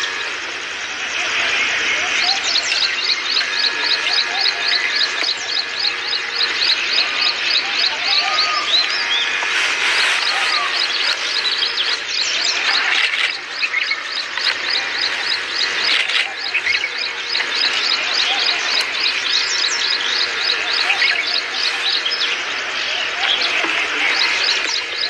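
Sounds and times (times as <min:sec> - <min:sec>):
background natural sound: 0:00.0 - 0:25.0
bird calling high repeated notes: 0:02.2 - 0:25.0.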